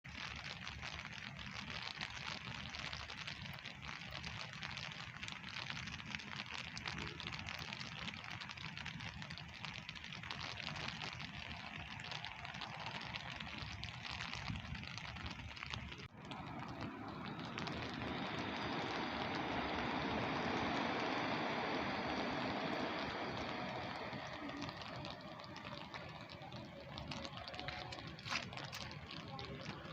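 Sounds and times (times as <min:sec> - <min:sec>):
steady rain falling: 0:00.1 - 0:29.9.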